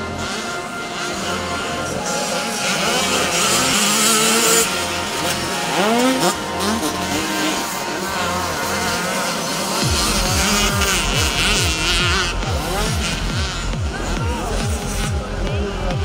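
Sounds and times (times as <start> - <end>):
motocross engines revving: 0.0 - 16.0.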